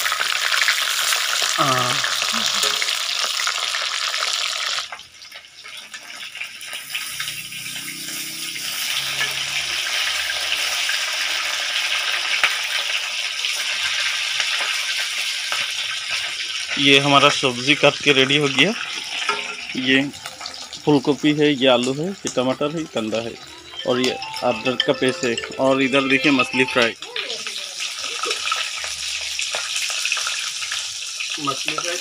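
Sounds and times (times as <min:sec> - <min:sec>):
fish sizzling in hot oil: 0:00.0 - 0:24.0, 0:26.7 - 0:32.0.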